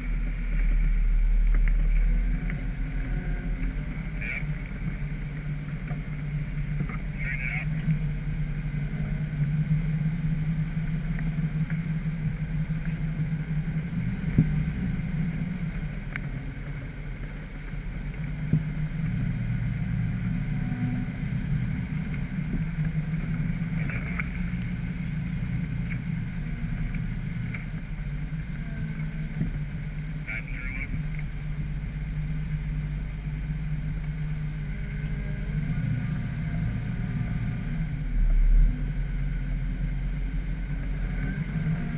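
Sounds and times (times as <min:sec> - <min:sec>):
car engine droning: 0:00.0 - 0:41.9.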